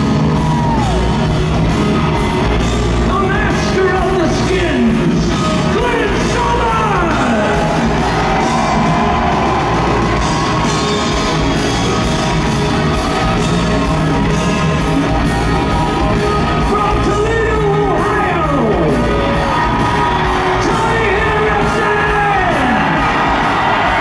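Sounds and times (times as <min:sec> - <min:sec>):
electric guitars: 0:00.0 - 0:24.0
live hard rock band: 0:00.0 - 0:24.0.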